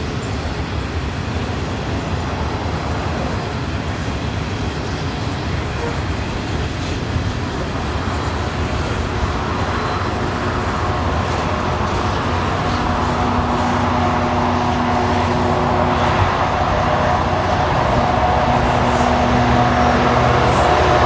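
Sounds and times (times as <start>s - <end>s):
locomotive engine drone: 0.0s - 21.0s
rumble of passing wagons: 0.0s - 21.0s.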